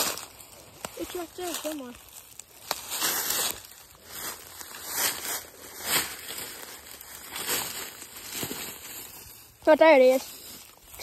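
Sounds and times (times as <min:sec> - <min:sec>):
footsteps crunching through dry leaves: 0:00.0 - 0:11.0.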